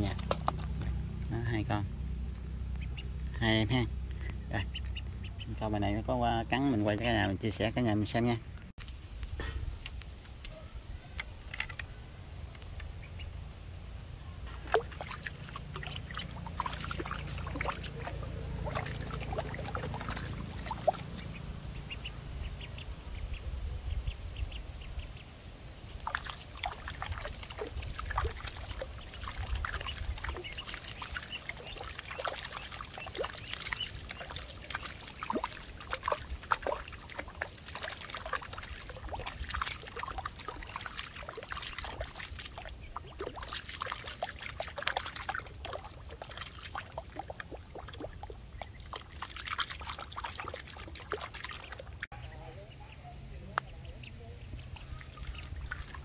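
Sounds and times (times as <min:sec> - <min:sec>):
duckling splashing in water: 0:00.0 - 0:08.1, 0:09.4 - 0:13.5, 0:14.4 - 0:56.0.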